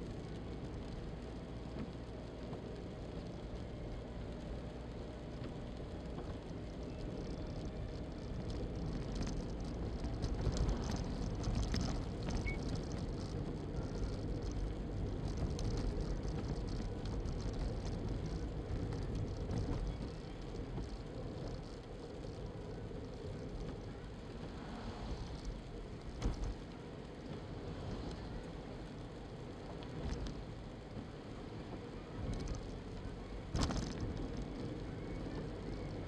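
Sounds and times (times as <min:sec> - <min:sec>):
car tyres on wet road: 0:00.0 - 0:36.0.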